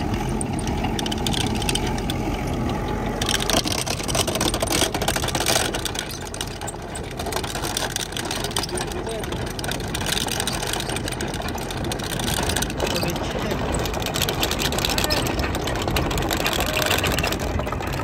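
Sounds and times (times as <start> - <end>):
tractor engine under load: 0.0 - 18.0
digging chain clattering: 0.2 - 18.0.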